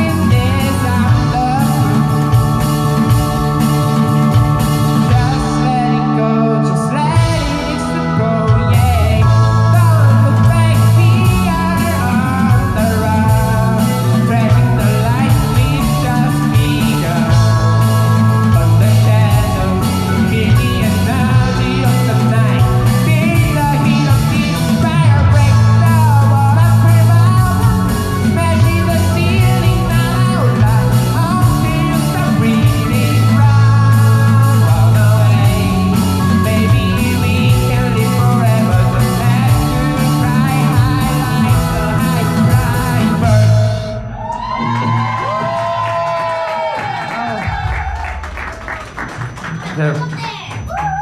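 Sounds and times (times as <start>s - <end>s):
bass line: 0.0s - 51.0s
drums: 0.0s - 51.0s
guitar: 0.0s - 51.0s.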